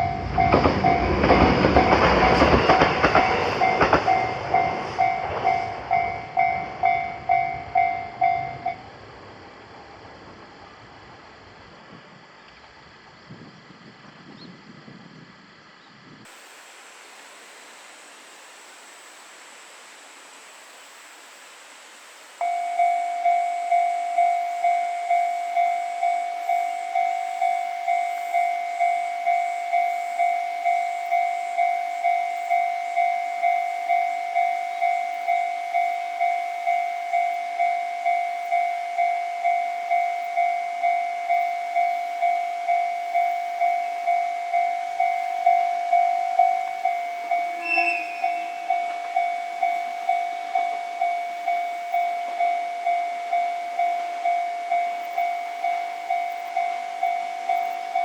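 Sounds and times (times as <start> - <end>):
level-crossing warning bell dinging: 0.0 - 9.0, 17.8 - 58.0
faint outdoor hiss: 0.0 - 58.0.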